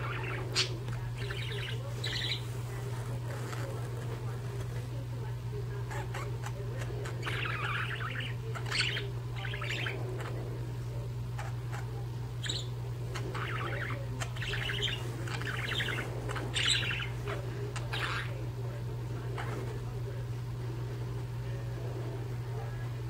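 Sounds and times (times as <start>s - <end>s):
budgies chirping and chattering: 0.0s - 23.0s
steady low hum: 0.0s - 23.0s.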